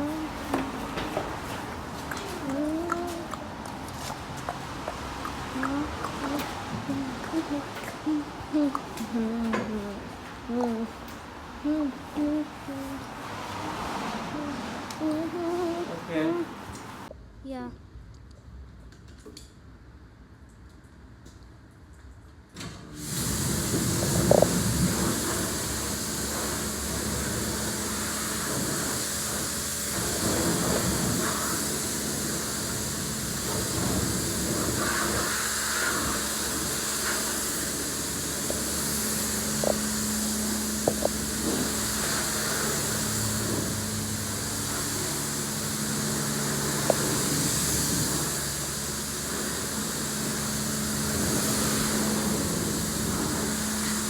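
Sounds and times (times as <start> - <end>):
motor hum: 0.0 - 17.0, 23.0 - 54.0
spraying water hiss: 0.0 - 17.1, 23.0 - 54.0.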